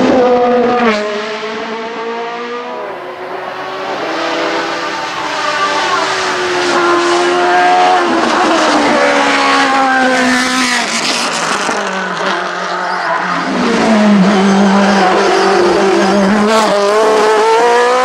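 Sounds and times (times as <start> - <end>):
race car engine at high revs: 0.0 - 18.0.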